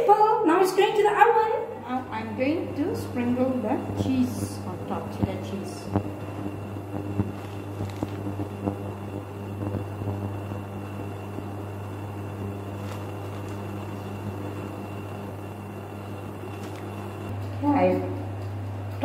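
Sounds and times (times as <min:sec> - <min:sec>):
steady low hum: 0:00.0 - 0:19.0
faint high whine: 0:01.6 - 0:17.4.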